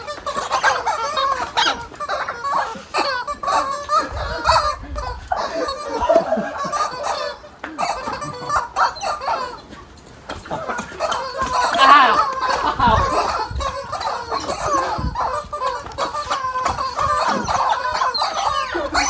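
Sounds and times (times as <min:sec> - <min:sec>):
rubber chicken toys squawking: 0:00.0 - 0:19.0.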